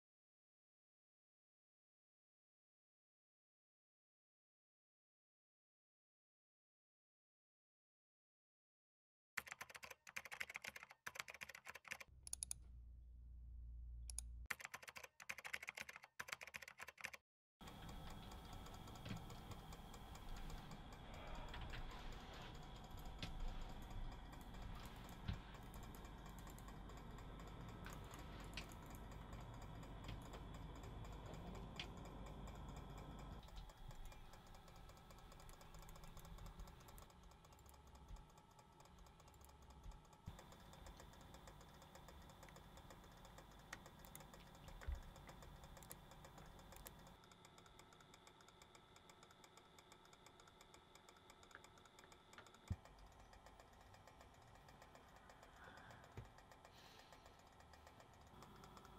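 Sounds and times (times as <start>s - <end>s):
typing on a laptop keyboard: 9.4s - 12.6s, 14.5s - 58.9s.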